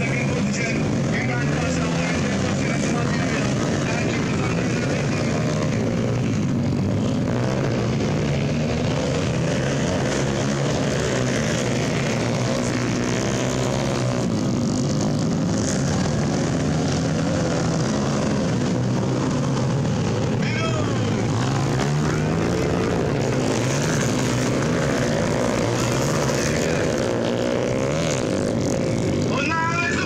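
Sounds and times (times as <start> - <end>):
dirt bike engines droning: 0.0 - 30.0.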